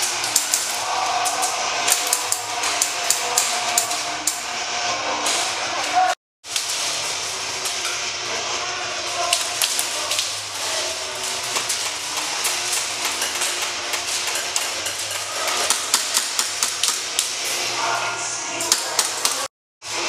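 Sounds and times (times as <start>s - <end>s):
steady indoor din: 0.0s - 19.5s.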